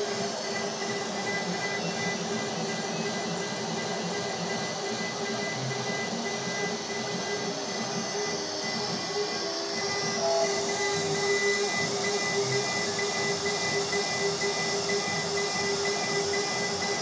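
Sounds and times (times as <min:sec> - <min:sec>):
router cutting wood: 0:00.0 - 0:17.0
router spindle whining: 0:00.0 - 0:17.0
stepper motor tones: 0:00.0 - 0:17.0.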